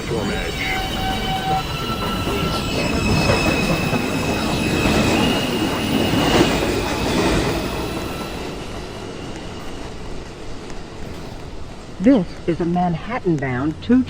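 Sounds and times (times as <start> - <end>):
subway train braking: 0.0 - 14.0
wheels squealing on rails: 0.0 - 14.0.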